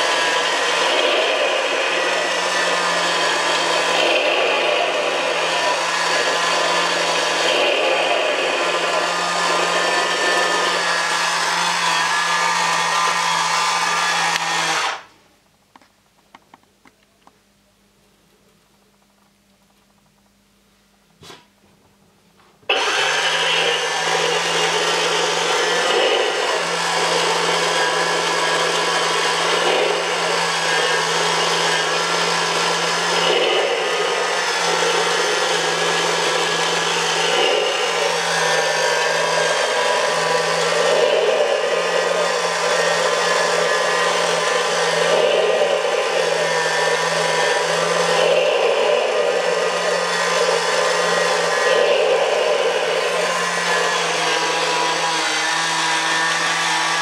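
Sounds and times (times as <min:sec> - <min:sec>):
small electric motor whirring: 0:00.0 - 0:15.1, 0:22.7 - 0:57.0.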